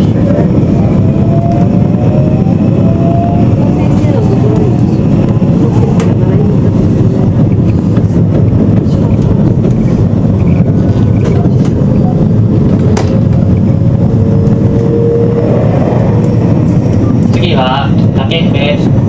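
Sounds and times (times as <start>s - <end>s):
train rumble from inside car: 0.0s - 19.0s.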